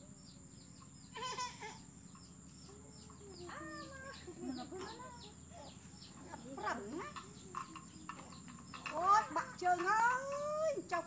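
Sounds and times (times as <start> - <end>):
rapid high chirping: 0.0 - 11.0
chickens clucking: 0.1 - 11.0.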